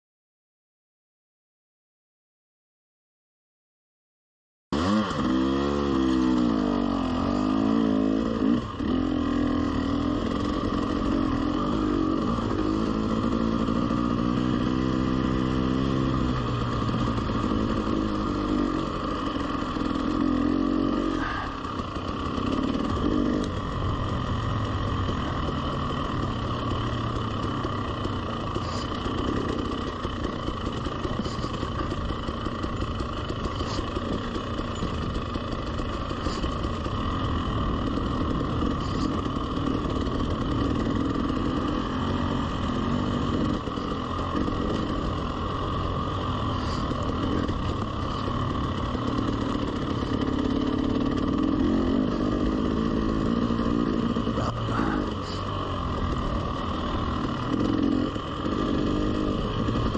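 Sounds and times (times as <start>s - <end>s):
dirt bike engine revving: 4.7s - 59.9s
tyre noise on trail: 4.8s - 59.9s.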